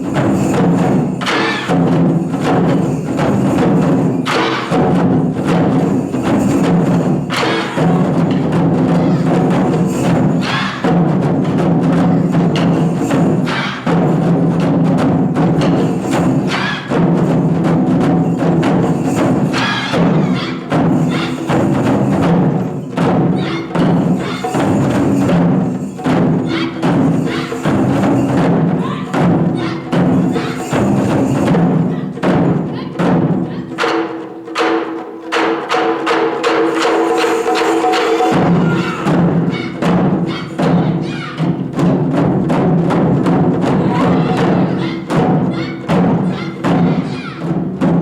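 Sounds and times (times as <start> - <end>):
drum ensemble playing: 0.0 - 48.0.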